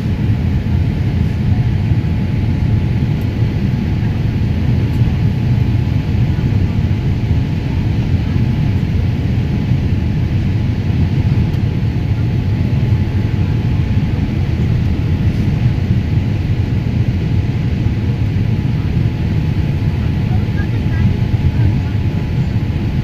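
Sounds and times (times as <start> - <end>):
engine and airflow rumble: 0.0 - 23.0.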